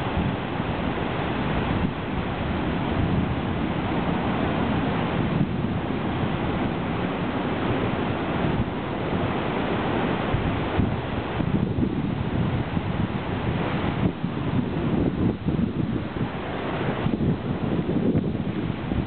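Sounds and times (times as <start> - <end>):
surf crashing over rocks: 0.0 - 19.0
wind buffeting microphone: 0.0 - 19.0.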